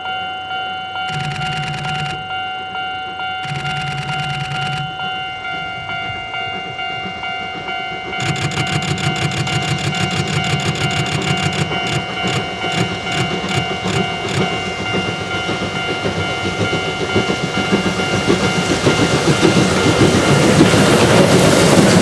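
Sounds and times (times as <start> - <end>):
steam locomotive chuffing: 0.9 - 22.0.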